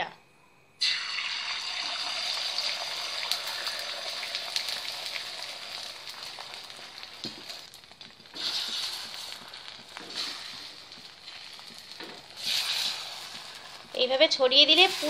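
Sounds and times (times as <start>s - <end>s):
egg sizzling on a griddle: 0.8s - 15.0s
spatula working egg: 2.0s - 15.0s.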